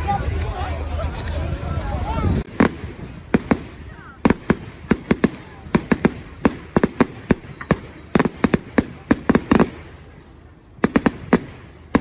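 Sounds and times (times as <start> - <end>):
fireworks bangs: 2.4 - 12.0.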